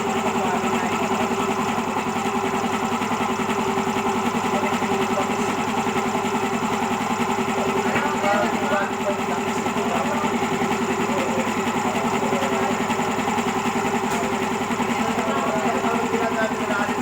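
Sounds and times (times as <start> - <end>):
air compressor pump beating: 0.0 - 17.0.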